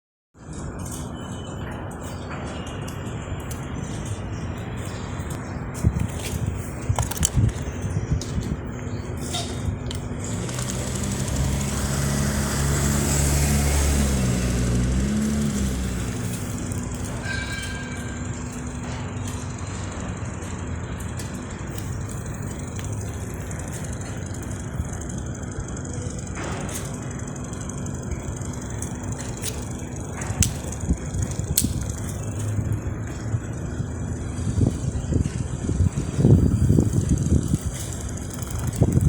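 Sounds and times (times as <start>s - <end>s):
electric fan air rush: 1.9s - 39.0s.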